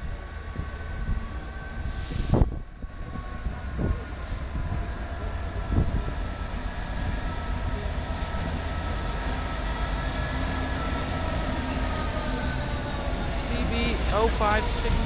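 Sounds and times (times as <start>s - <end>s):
deep locomotive engine rumble: 0.0s - 15.0s.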